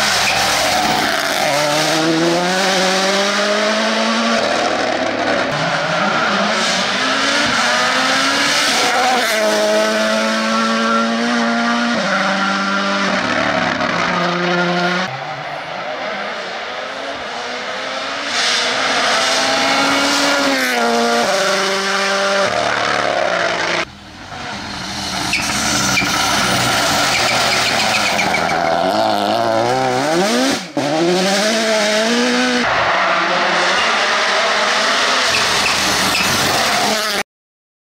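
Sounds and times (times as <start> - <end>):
rally car engine revving: 0.0 - 37.2.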